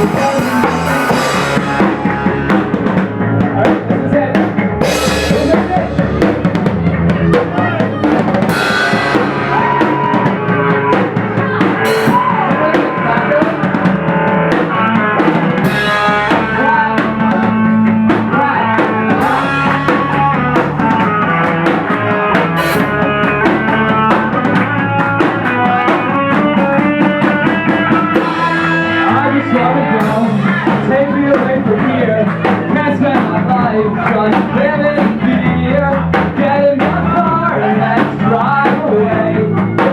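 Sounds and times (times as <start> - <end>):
distorted guitars: 0.0 - 39.9
drum kit: 0.0 - 39.9
live rock band playing: 0.0 - 39.9.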